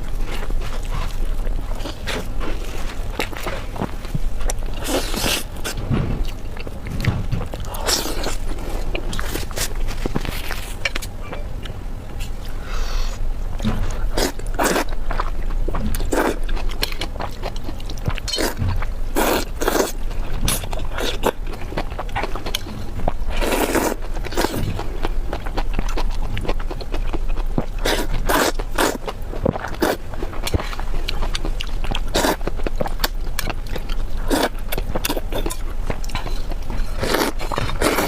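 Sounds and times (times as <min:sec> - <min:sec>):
chewing and crunching food: 0:00.0 - 0:12.6, 0:13.2 - 0:38.0.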